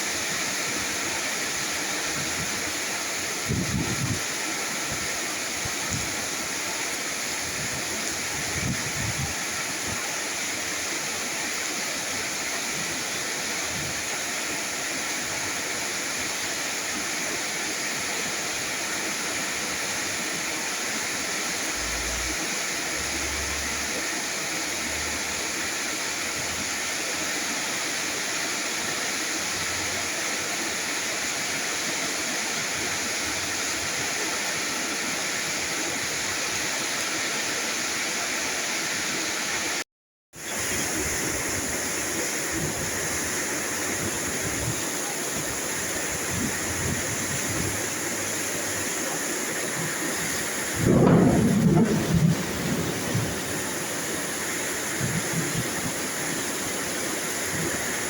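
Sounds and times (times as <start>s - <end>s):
heavy rainfall: 0.0s - 39.8s, 40.4s - 58.0s.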